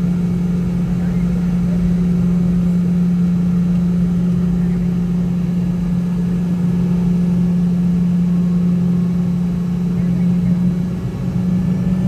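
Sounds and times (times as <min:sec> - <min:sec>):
aircraft cabin engine drone: 0:00.0 - 0:12.0.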